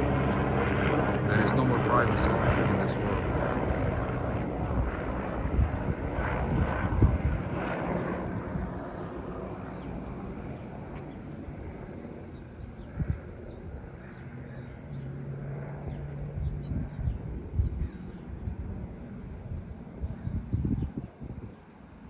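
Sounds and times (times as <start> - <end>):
aircraft engine drone overhead: 0.0 - 22.0.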